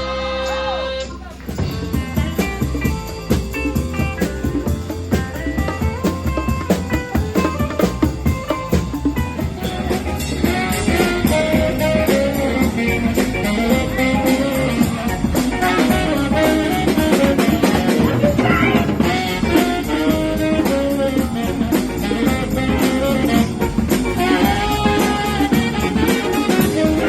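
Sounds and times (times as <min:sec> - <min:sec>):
live jazz-blues band: 0:00.0 - 0:27.0.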